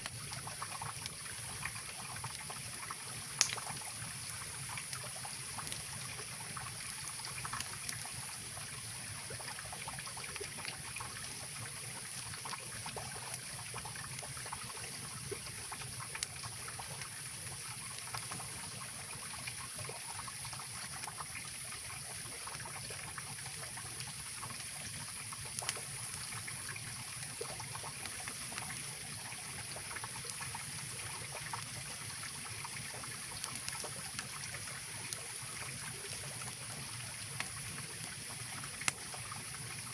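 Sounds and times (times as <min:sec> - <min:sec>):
campfire popping and crackling: 0:00.0 - 0:39.9.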